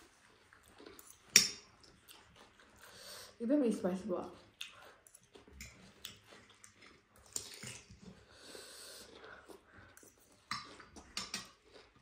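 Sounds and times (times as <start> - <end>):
chewing and biting: 0.0 - 3.0, 4.3 - 12.0.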